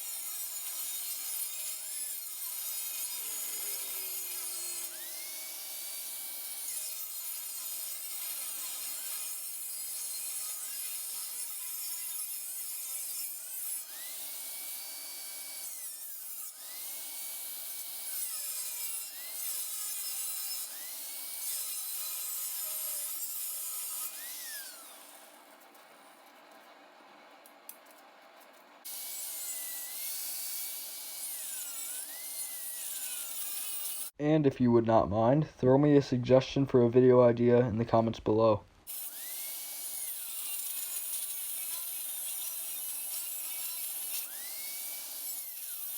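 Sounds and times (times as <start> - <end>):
power tool cutting steel: 0.0 - 26.1, 28.8 - 34.2, 38.9 - 45.9.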